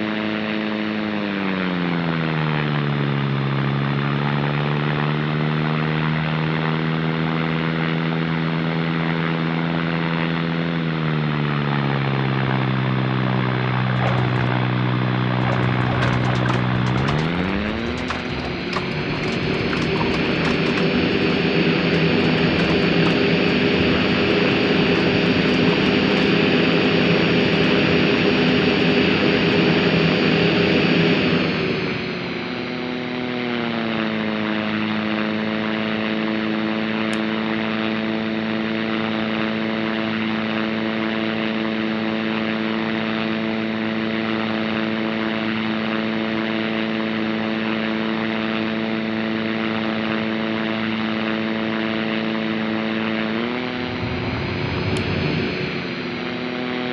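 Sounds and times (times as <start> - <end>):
turboprop engine droning: 0.0 - 56.9.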